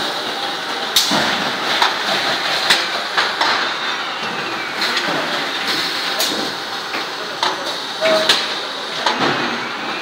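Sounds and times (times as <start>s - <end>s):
mechanical hiss and hum: 0.0s - 10.0s.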